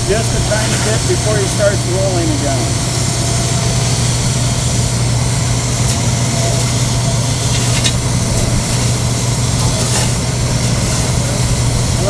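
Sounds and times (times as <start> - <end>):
hot-air welder humming: 0.0 - 12.0.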